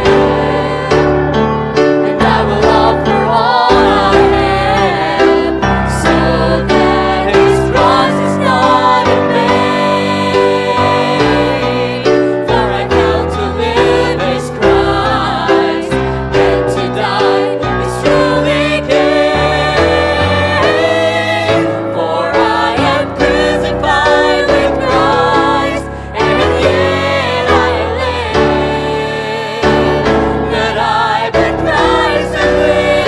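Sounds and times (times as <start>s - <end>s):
instrumental accompaniment with bass: 0.0s - 33.0s
vocal quartet singing in harmony: 0.0s - 33.0s.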